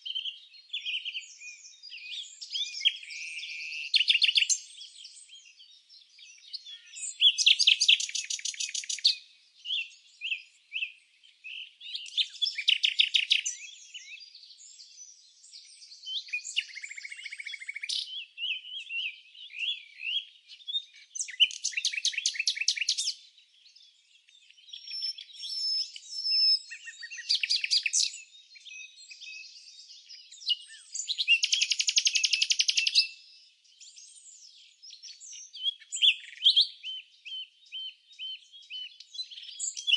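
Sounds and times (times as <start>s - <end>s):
birds chirping and calling: 0.0s - 39.9s
rapid trilled birdsong: 0.0s - 39.9s.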